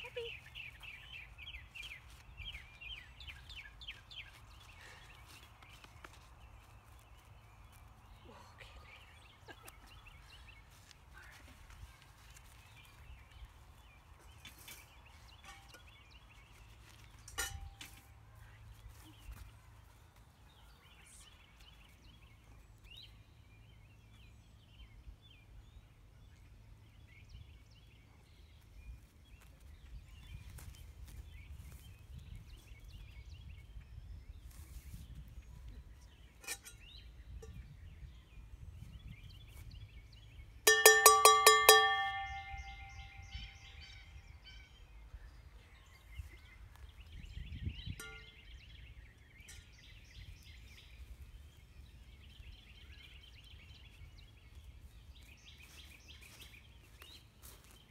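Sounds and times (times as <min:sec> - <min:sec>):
faint birdsong chirps: 0:00.0 - 0:57.9.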